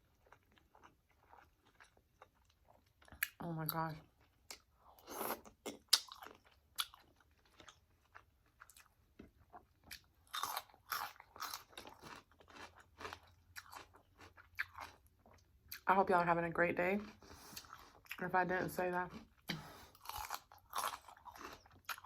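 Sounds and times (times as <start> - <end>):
crunchy chewing: 0.0 - 3.4, 4.1 - 15.8, 17.0 - 18.2, 19.1 - 22.0.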